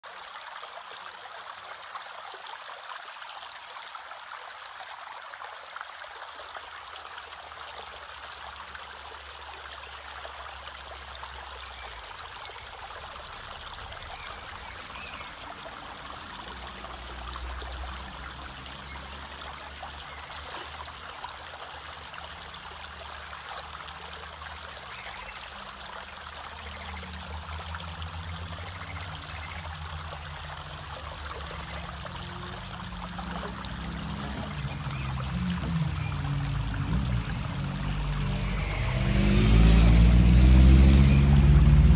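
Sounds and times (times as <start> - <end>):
stream over pebbles: 0.0 - 41.9.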